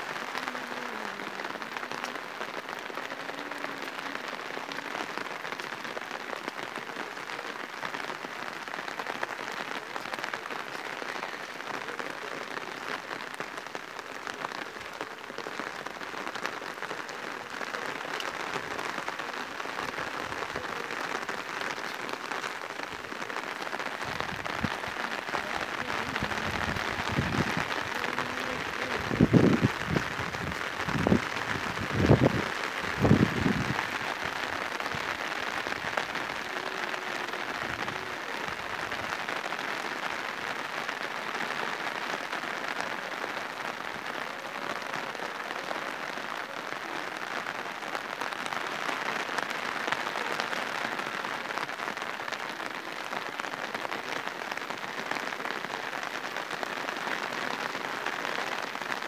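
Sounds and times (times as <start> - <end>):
rain hissing on surfaces: 0.0 - 59.0.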